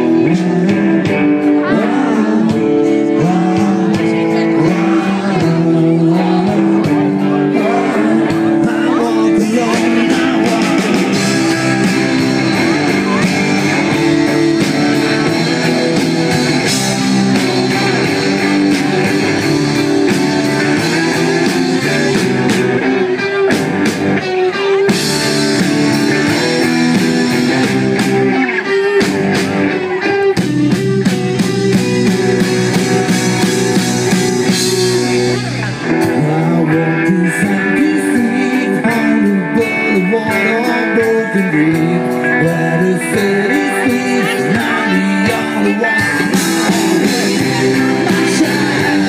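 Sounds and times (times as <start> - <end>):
electric guitars: 0.0 - 49.0
live rock band playing: 0.0 - 49.0
steady drum beat: 0.0 - 49.0.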